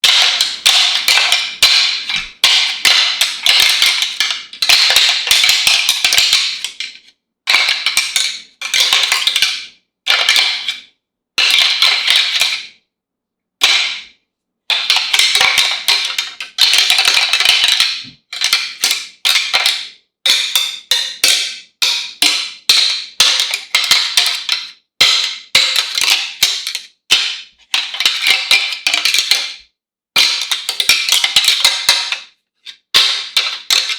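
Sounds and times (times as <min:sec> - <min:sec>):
antlers clashing and rattling: 0:00.0 - 0:10.8, 0:14.7 - 0:29.6, 0:30.2 - 0:33.9.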